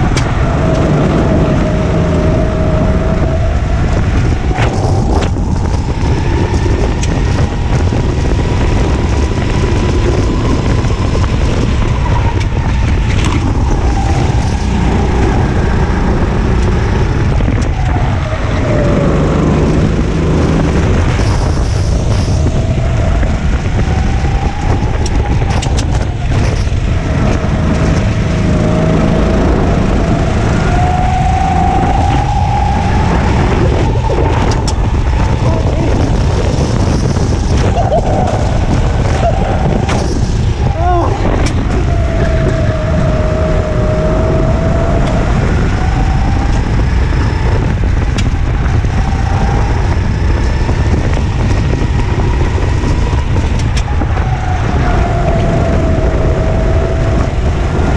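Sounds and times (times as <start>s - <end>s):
go-kart engine: 0.0s - 57.9s
heavy low rumble: 0.0s - 57.9s.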